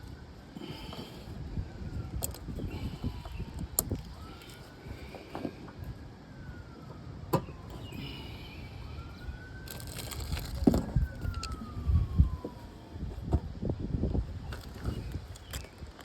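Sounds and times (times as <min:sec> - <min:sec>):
siren wailing: 0:00.0 - 0:13.7.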